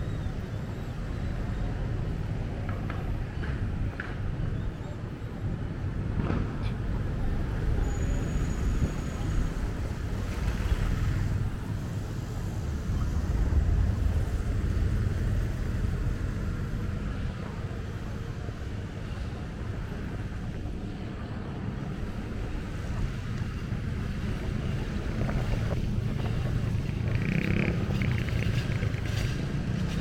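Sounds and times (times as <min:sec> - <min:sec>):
rumble of passing vehicles: 0:00.0 - 0:30.0.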